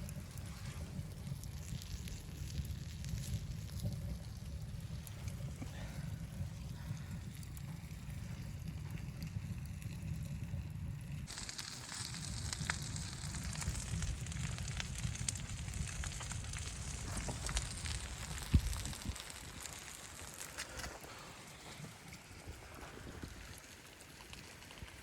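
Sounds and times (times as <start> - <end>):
low steady rumble: 0.0 - 23.6
fire crackling: 0.0 - 25.0.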